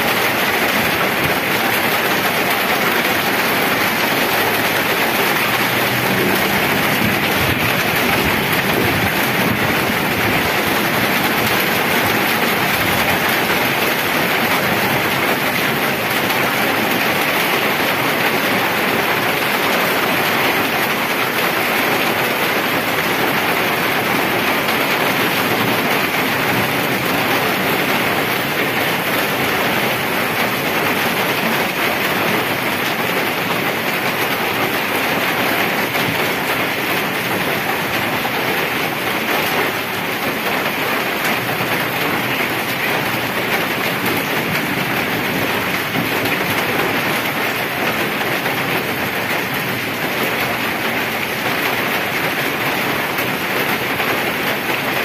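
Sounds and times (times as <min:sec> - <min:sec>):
heavy rain on wet pavement: 0:00.0 - 0:55.0.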